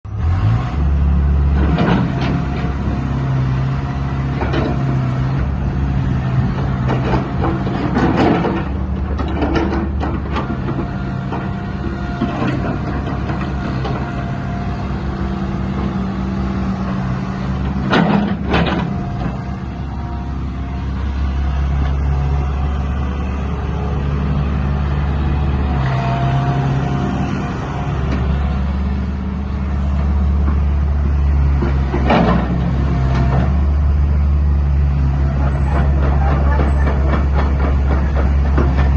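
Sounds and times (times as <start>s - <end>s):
excavator diesel engine running: 0.1s - 38.9s.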